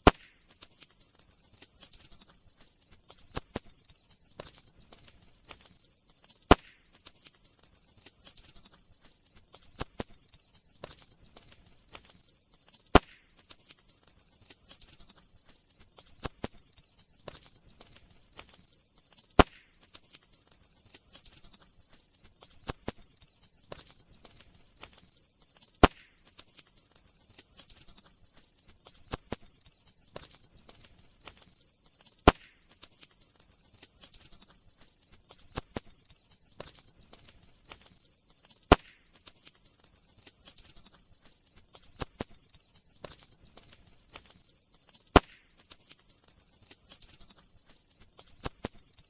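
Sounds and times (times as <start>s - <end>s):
campfire crackling and popping: 0.0s - 49.0s.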